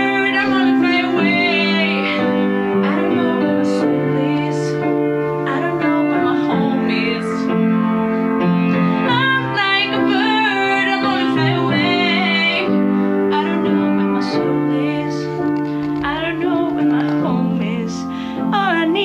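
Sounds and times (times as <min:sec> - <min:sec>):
woman singing: 0:00.0 - 0:07.6, 0:09.0 - 0:19.0
piano accompaniment: 0:00.0 - 0:19.0.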